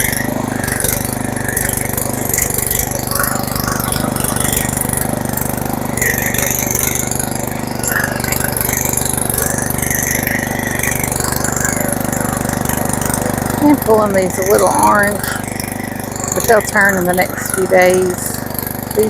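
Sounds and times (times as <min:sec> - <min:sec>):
motor running steadily: 0:00.0 - 0:19.0.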